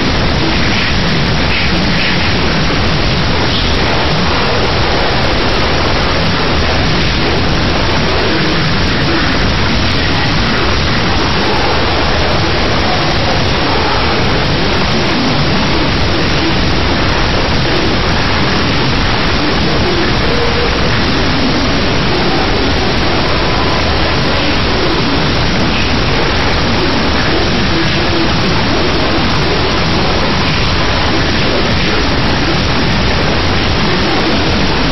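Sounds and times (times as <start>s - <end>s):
steady static hiss: 0.0s - 34.9s.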